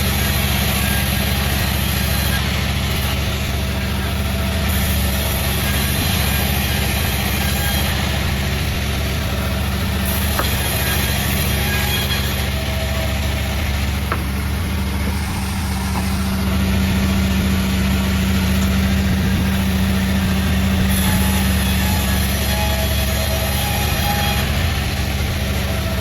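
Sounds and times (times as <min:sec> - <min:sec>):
sawmill machinery humming: 0:00.0 - 0:26.0.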